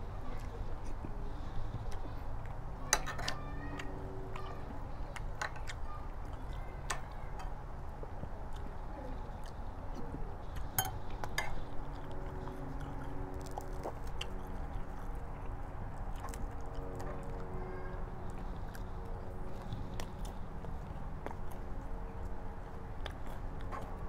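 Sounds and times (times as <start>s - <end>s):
chewing: 0.0s - 24.0s
steady low hum: 0.0s - 24.0s.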